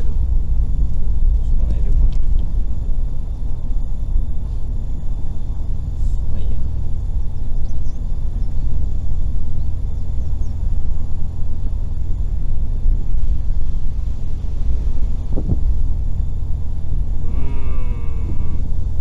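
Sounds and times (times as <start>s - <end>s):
car tyres and engine rumbling: 0.0s - 19.0s.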